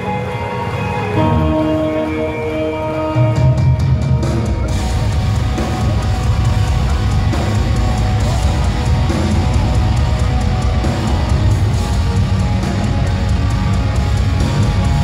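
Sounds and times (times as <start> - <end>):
distorted electric guitars: 0.0 - 15.0
drum kit: 1.1 - 15.0.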